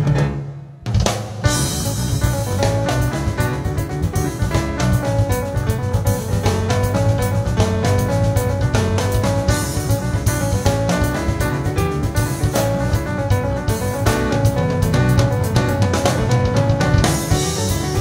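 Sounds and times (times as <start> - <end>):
busy piano line: 0.0 - 18.0
jazz trio playing: 0.0 - 18.0.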